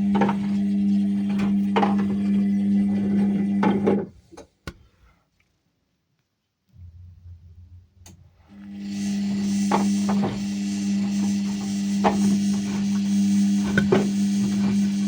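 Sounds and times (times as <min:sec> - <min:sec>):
washing machine motor whining: 0:00.0 - 0:04.0, 0:06.8 - 0:15.0.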